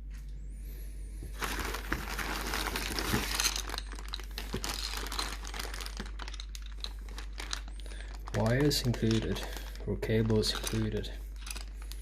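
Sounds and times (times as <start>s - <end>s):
packaging crinkling: 1.3s - 12.0s.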